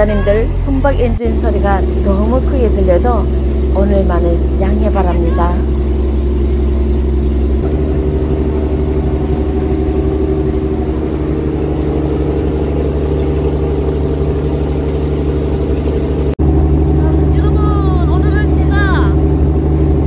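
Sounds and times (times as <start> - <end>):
boat engine roaring: 0.0 - 20.0.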